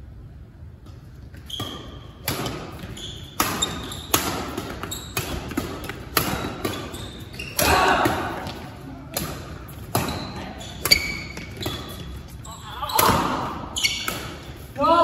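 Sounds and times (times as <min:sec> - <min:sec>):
rackets hitting shuttlecock: 0:00.9 - 0:12.3, 0:12.9 - 0:14.7.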